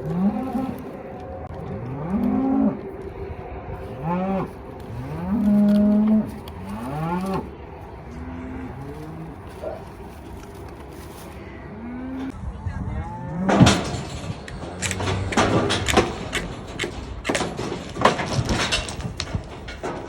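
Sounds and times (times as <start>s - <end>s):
calves bawling: 0.0s - 12.4s, 13.0s - 20.0s.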